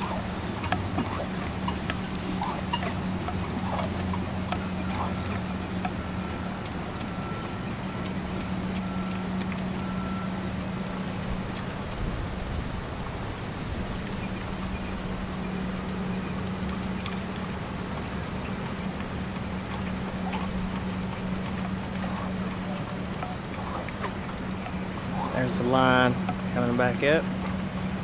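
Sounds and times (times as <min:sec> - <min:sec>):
cable car mechanical hum: 0:00.0 - 0:28.0.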